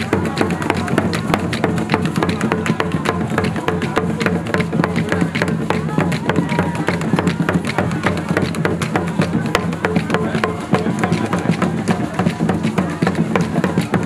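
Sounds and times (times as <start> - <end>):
fast wooden drumming: 0.0 - 14.0.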